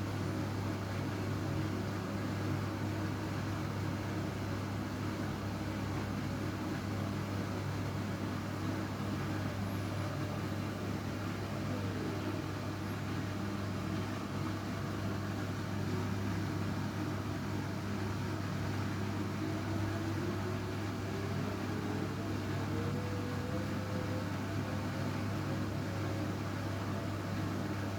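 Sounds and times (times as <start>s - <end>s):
washing machine motor hum: 0.0s - 27.9s.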